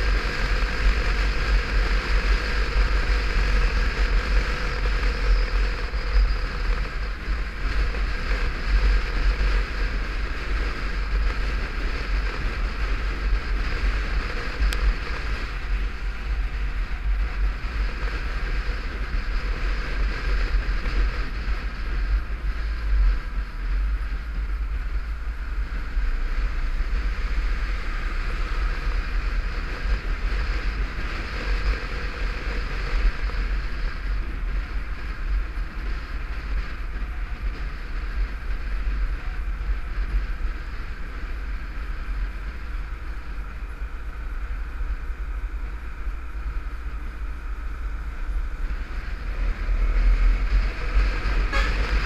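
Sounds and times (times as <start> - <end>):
motorcycle engine and road hum: 0.0 - 52.0
wind rumbling on microphone: 0.0 - 52.0.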